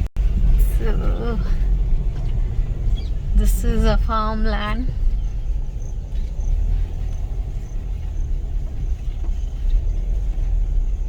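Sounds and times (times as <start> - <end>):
car rumbling on rough road: 0.0 - 11.0.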